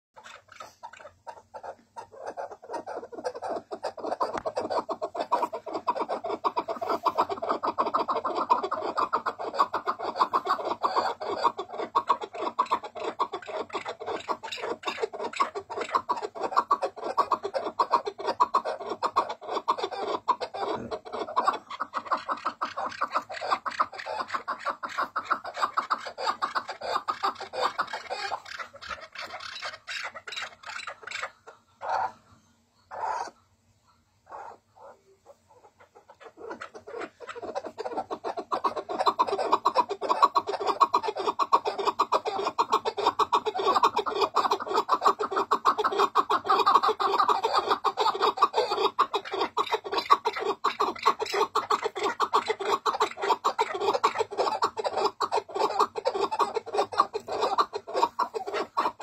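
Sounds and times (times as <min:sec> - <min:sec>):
partridge clucking call: 0:00.2 - 0:32.3, 0:34.3 - 0:59.0.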